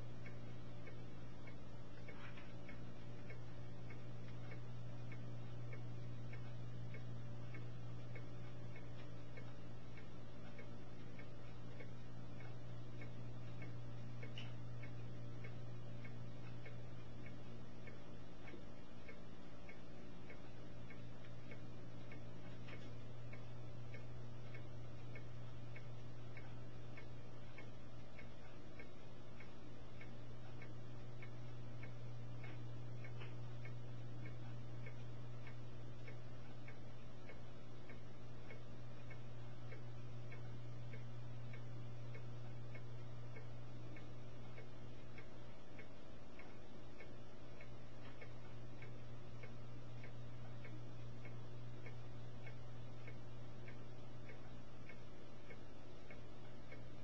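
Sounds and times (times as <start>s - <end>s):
fast regular ticking: 0.0s - 57.0s
steady low hum: 0.0s - 57.0s.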